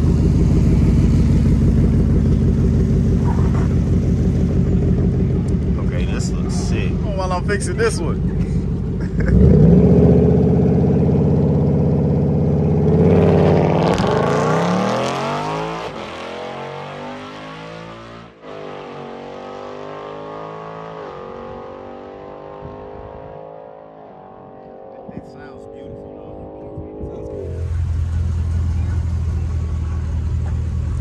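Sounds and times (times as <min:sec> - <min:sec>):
car engine revving and accelerating: 0:00.0 - 0:31.0.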